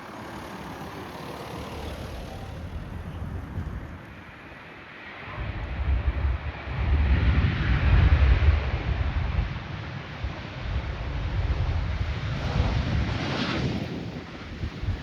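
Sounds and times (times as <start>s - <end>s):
wind buffeting microphone: 0.0s - 4.6s, 5.3s - 15.0s
jet airliner passing: 0.0s - 15.0s.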